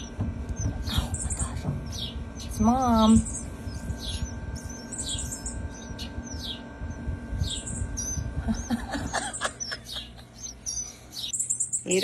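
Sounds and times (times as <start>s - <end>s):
nestling birds begging chirps: 0.0s - 12.0s.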